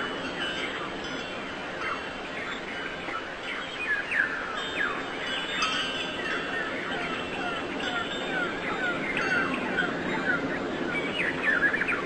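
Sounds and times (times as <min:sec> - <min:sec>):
birds chirping: 0:00.0 - 0:12.0
wind chimes ringing: 0:00.0 - 0:12.0.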